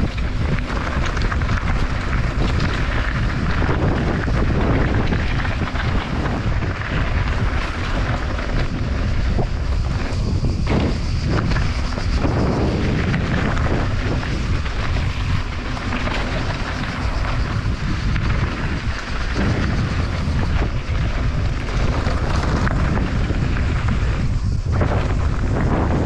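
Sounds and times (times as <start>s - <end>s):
bike clicks and rattles: 0.0s - 26.0s
tyres crunching over gravel: 0.0s - 26.0s
wind buffeting microphone: 0.0s - 26.0s.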